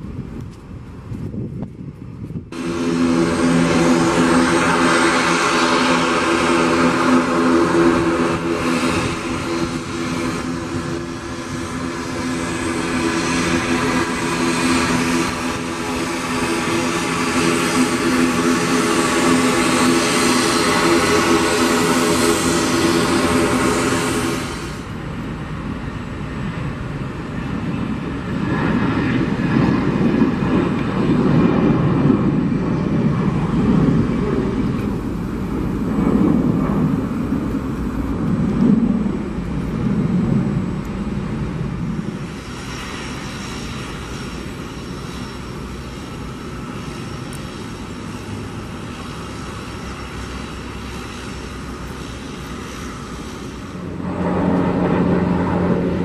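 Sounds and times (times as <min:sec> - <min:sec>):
jet engines at takeoff thrust: 0:00.0 - 0:56.0.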